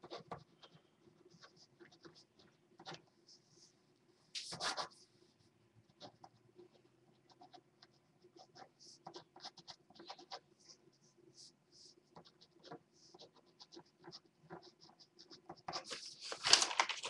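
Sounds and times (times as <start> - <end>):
faint irregular clicks and scratching: 0.0 - 17.0.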